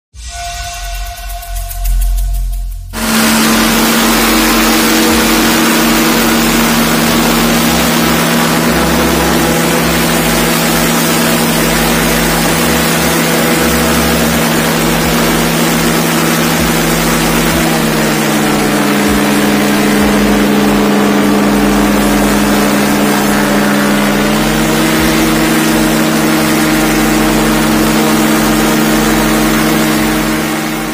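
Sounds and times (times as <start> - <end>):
engine running: 0.8 - 30.9.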